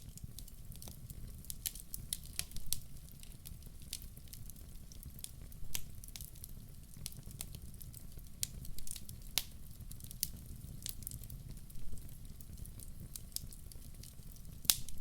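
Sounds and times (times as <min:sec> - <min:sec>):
fire crackles and pops: 0:00.0 - 0:15.0.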